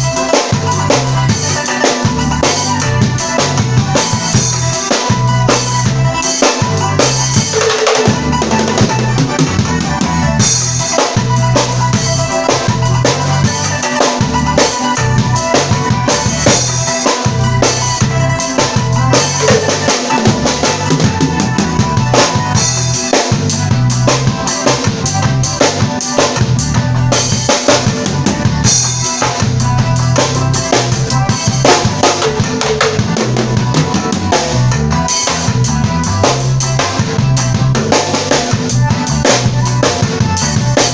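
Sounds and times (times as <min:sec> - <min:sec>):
drum kit beat: 0:00.0 - 0:40.9.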